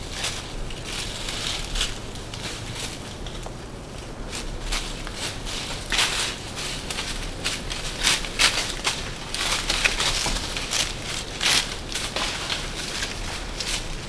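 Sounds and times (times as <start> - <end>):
footsteps crunching dry leaves: 0.0 - 14.0.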